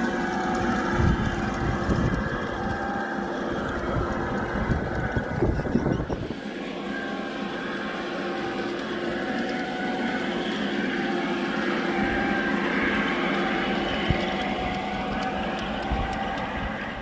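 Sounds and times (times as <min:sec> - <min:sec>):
model train motor whine: 0:00.0 - 0:17.0.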